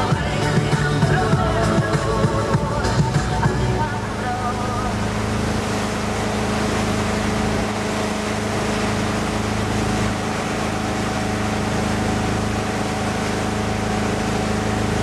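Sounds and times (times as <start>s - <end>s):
motorboat engine hum: 0.0s - 15.0s
rushing water and wind: 0.0s - 15.0s.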